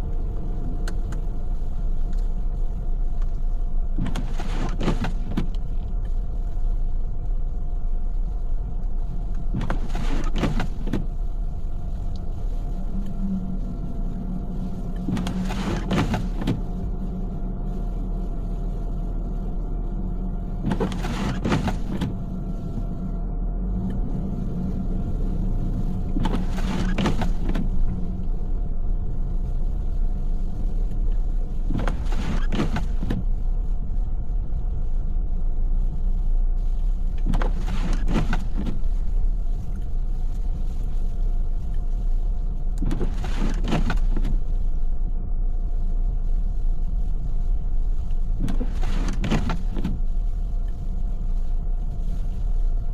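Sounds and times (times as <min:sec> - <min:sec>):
road and engine rumble: 0:00.0 - 0:52.9
windshield wipers swishing: 0:00.0 - 0:52.9.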